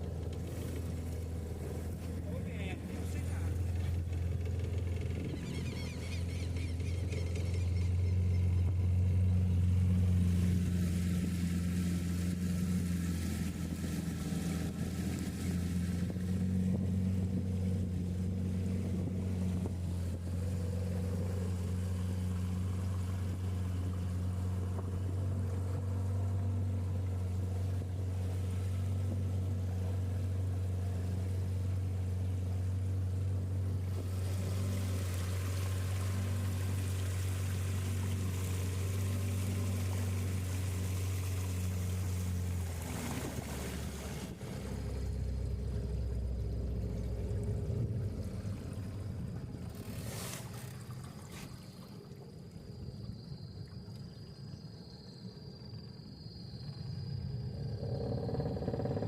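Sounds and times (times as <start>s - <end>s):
boat motor droning: 0.0s - 59.0s.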